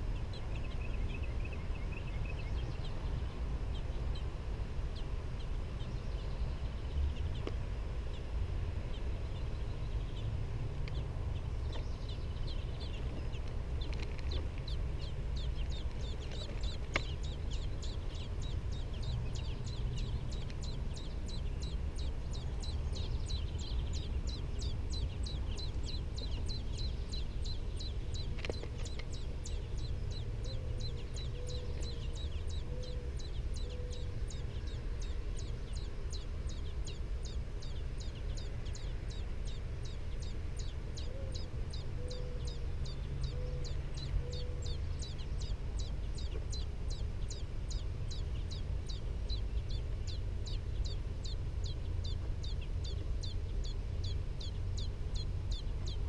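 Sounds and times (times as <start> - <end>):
low steady rumble: 0.0 - 56.0
nestlings peeping: 0.0 - 56.0.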